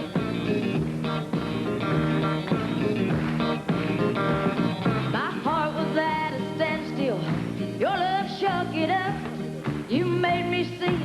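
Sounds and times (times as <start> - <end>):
country band playing: 0.0 - 11.0
guitar notes: 0.0 - 11.0.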